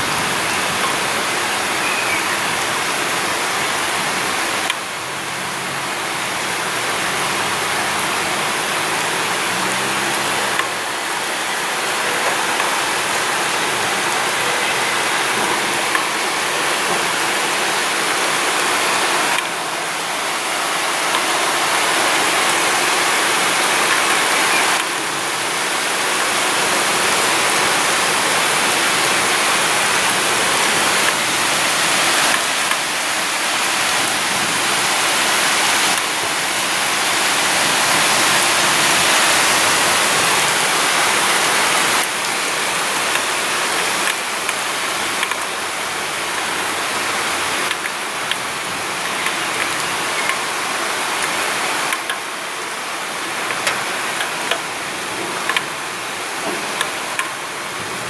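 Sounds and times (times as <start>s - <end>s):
heavy rain hiss: 0.0s - 58.0s.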